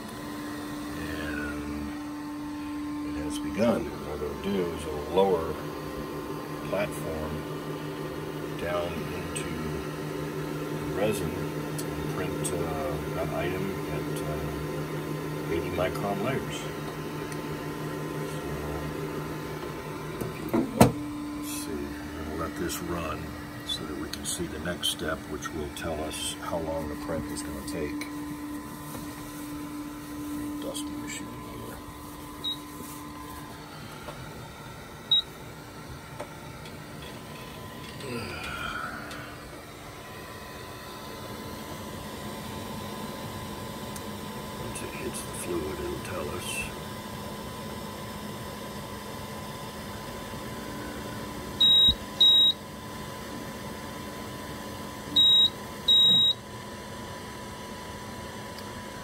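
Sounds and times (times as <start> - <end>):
printer humming: 0.0 - 59.0.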